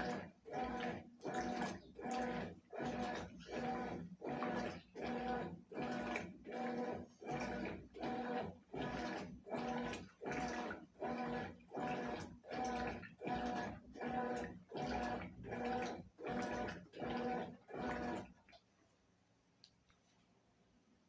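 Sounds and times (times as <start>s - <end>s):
washing machine motor humming: 0.0s - 18.6s.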